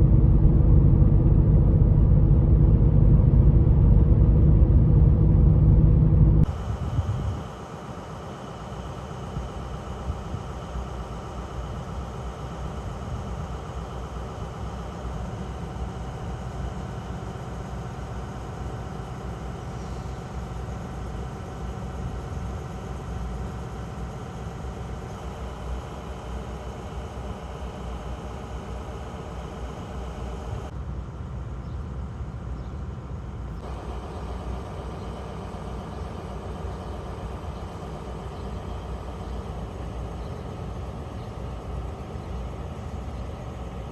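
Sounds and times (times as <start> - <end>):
passenger train rumbling: 0.0 - 8.2, 14.3 - 43.9.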